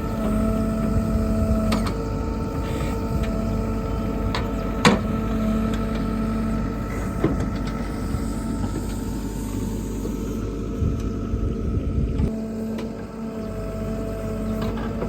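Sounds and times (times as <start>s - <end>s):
backhoe engine running: 0.0s - 15.0s.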